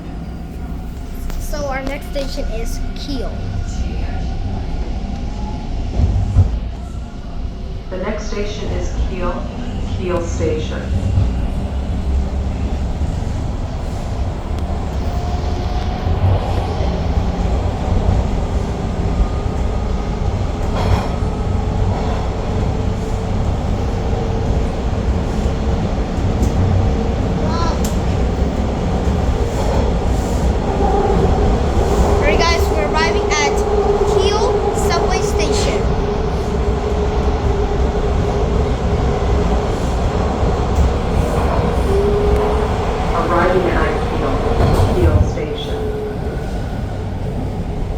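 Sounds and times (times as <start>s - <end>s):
subway train rumbling: 0.0s - 47.9s.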